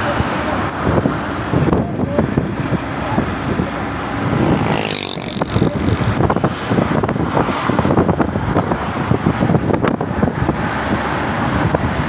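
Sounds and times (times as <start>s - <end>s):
vehicle engine and road noise: 0.0s - 12.0s
wind buffeting the microphone: 0.0s - 12.0s.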